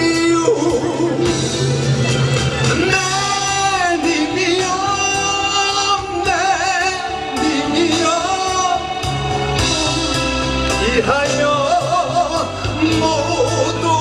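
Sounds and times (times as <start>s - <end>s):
man singing with vibrato: 0.0s - 1.6s, 2.7s - 14.0s
instrumental backing track: 0.0s - 14.0s.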